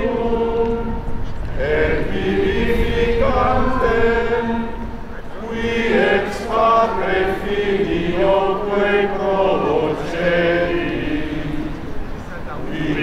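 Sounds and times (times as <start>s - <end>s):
crowd chanting a prayer: 0.0s - 13.0s.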